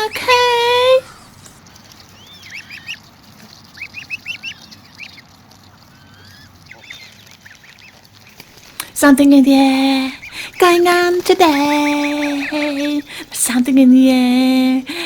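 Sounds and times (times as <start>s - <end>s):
water birds calling: 0.0s - 15.0s.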